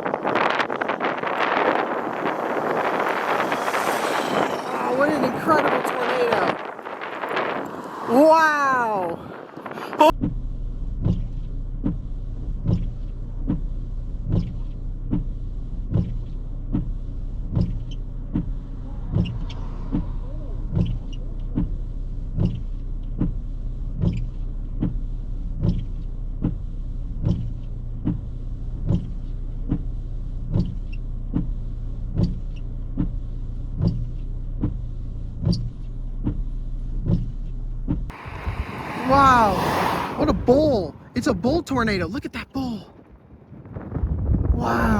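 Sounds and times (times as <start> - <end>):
vehicle low hum: 0.0 - 44.9.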